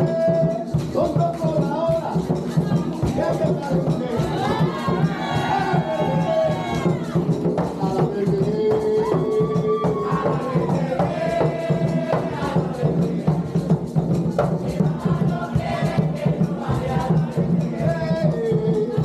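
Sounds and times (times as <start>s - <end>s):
hand drumming: 0.0s - 19.0s.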